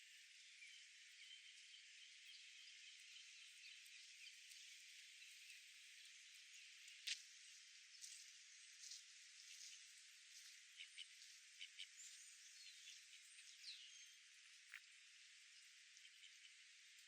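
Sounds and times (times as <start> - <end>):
chirps and ticks: 0.3 - 17.0.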